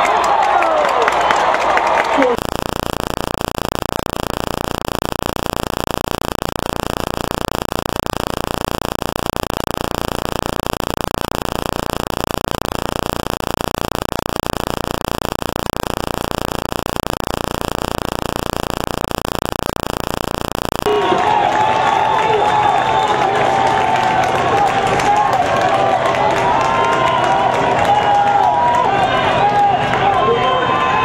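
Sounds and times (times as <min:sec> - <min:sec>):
electronic static hiss: 0:01.4 - 0:29.0.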